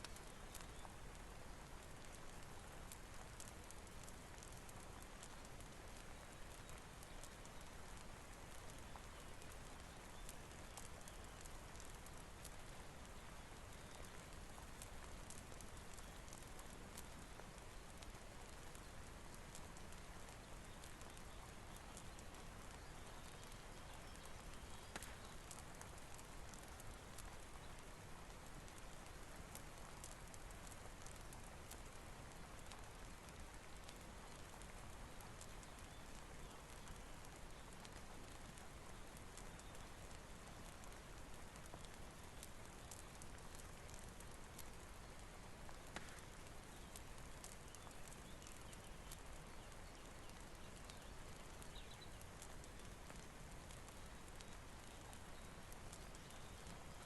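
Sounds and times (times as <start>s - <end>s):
faint rain hiss: 0.0s - 57.0s
fireplace crackling: 0.0s - 57.0s.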